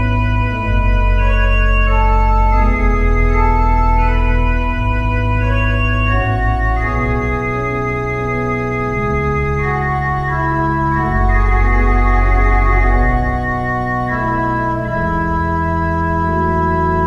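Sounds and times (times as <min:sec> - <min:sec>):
pipe organ playing chords: 0:00.0 - 0:17.0.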